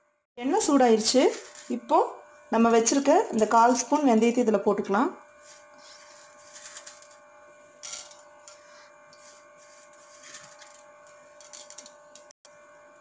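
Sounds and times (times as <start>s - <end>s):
seeds sizzling in hot oil: 0.5s - 4.0s, 5.3s - 12.3s.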